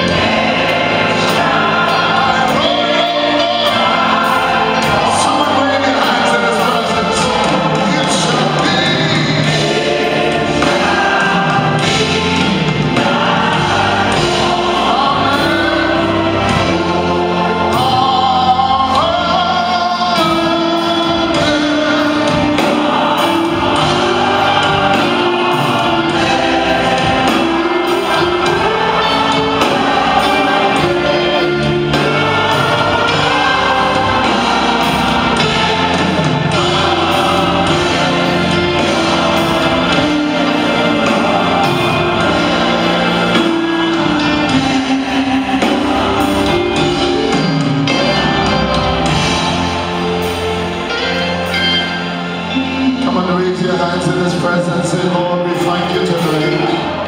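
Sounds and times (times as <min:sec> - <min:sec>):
choir singing gospel: 0:00.0 - 0:57.0.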